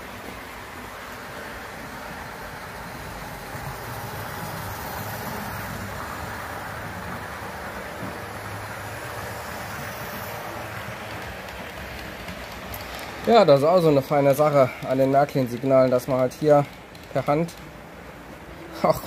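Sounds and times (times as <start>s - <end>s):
model trains rolling and humming: 0.0s - 19.0s.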